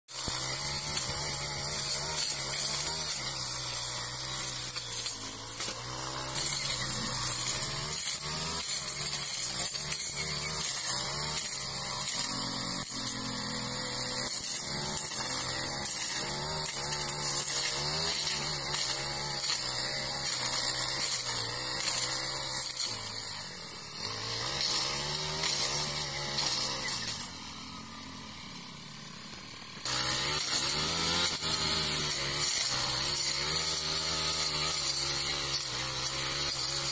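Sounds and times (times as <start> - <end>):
blade cutting brush: 0.1 - 36.9
brush cutter engine running: 0.1 - 36.9.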